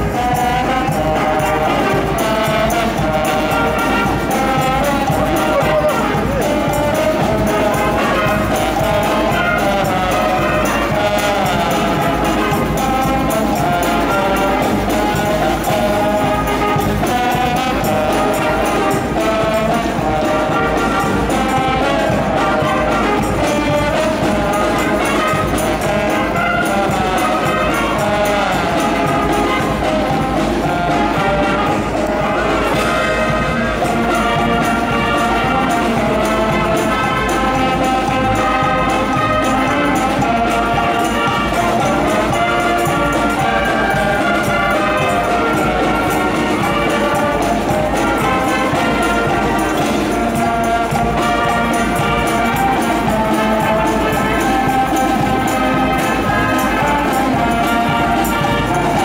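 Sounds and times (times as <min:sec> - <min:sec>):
tuba bass line: 0:00.0 - 0:59.0
wind band playing: 0:00.0 - 0:59.0.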